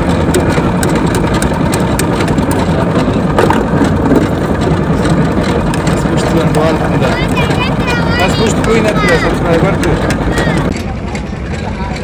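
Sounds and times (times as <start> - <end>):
juice crusher engine running: 0.0 - 12.0.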